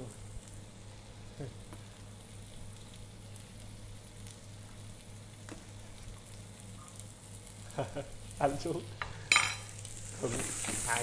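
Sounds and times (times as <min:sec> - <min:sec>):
garlic sizzling in oil: 0:00.0 - 0:11.0.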